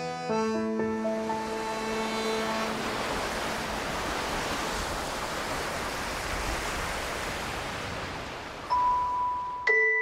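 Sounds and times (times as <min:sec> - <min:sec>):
waves washing on a beach: 0:01.1 - 0:09.6.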